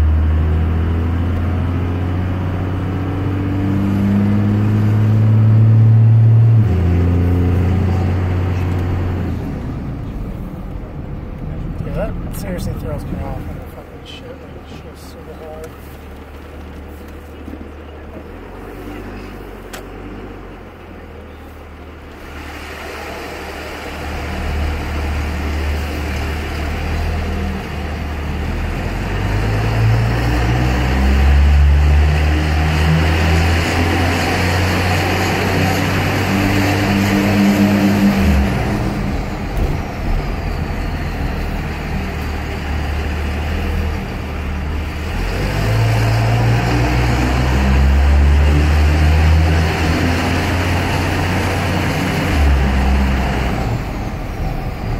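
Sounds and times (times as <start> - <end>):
diesel engine exhaust under load: 0.0 - 54.9.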